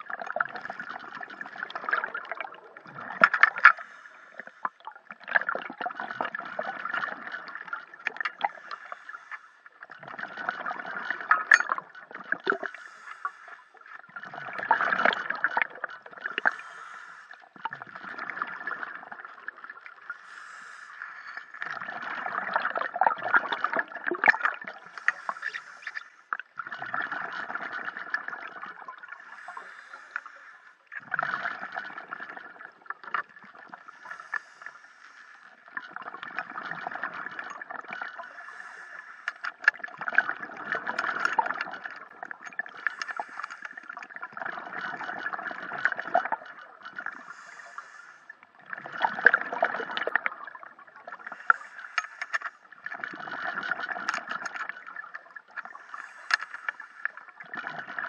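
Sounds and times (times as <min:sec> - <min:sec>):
underwater bubbles gurgling: 0:00.0 - 0:58.0.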